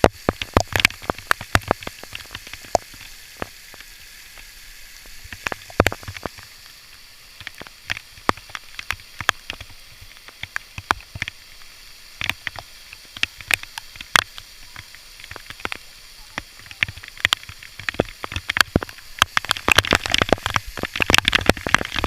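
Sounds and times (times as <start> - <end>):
sharp crackles and taps: 0.0 - 22.0
waterfall hiss: 0.0 - 22.0.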